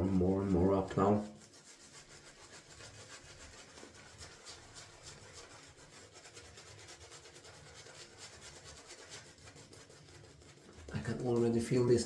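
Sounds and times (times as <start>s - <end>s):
shaving brush swishing lather: 0.0s - 12.0s.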